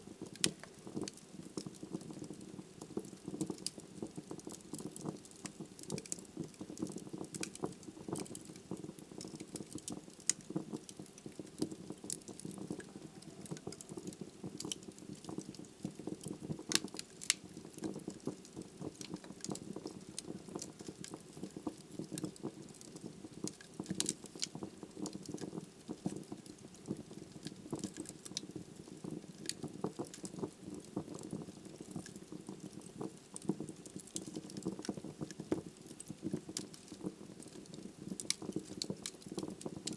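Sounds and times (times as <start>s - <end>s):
logs crackling in fireplace: 0.0s - 39.9s
low fire rumble: 0.0s - 39.9s.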